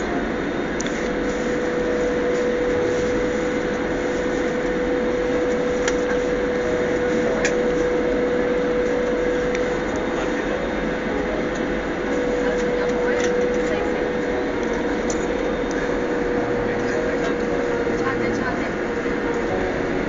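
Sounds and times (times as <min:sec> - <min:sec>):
airliner cabin engine and air noise: 0:00.0 - 0:20.0
steady hum: 0:00.0 - 0:20.0.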